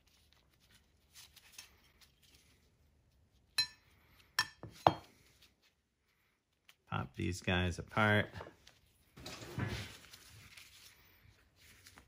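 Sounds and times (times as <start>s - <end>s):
faint handling sounds: 0.0s - 12.0s.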